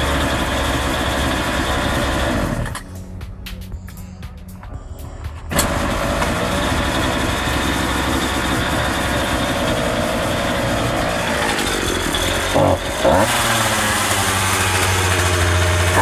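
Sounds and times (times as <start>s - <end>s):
chainsaw engine running: 0.0s - 2.8s, 5.5s - 16.0s.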